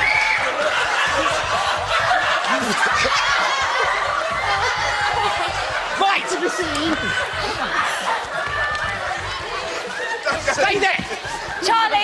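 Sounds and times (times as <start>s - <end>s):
people laughing and snickering: 0.0s - 12.0s.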